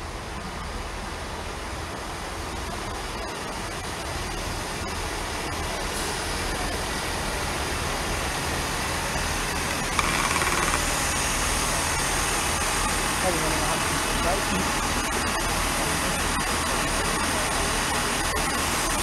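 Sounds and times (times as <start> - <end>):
diesel train engine: 0.0 - 19.0
train wheels on rails: 1.2 - 19.0.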